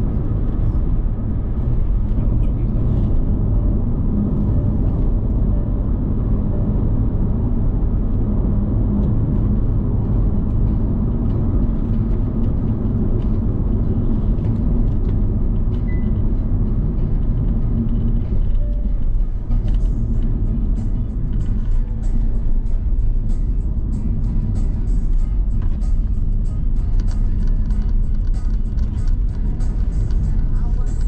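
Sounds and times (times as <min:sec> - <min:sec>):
vehicle road and engine rumble: 0:00.0 - 0:31.0.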